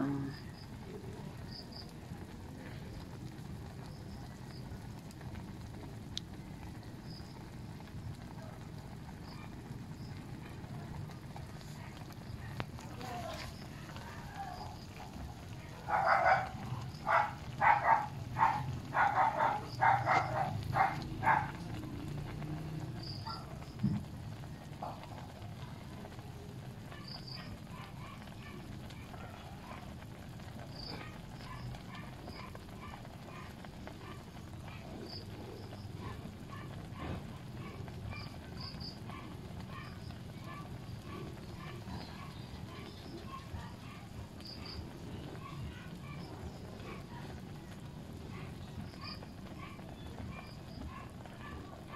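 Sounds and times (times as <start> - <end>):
wood fire burning: 0.0 - 51.9.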